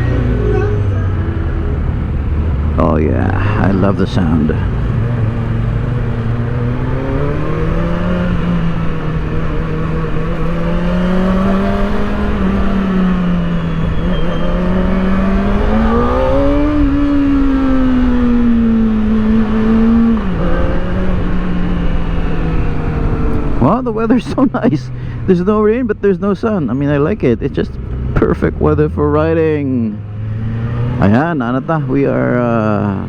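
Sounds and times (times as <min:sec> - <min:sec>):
motorcycle engine revving: 0:00.0 - 0:24.2, 0:26.8 - 0:33.0.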